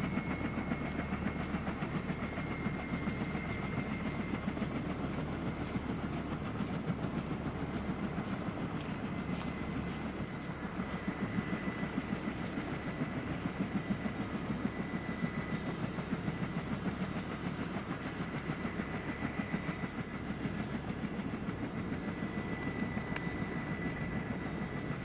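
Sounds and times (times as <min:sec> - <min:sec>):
helicopter rotor thumping: 0:00.0 - 0:25.0
turbine whine: 0:00.0 - 0:25.0.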